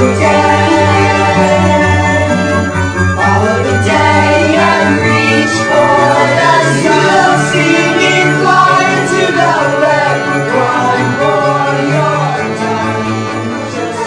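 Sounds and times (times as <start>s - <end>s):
song with several singing voices: 0.0s - 14.0s.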